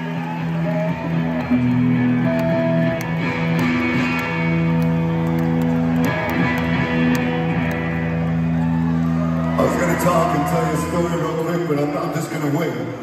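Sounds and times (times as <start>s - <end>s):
live electric guitars: 0.0s - 13.0s.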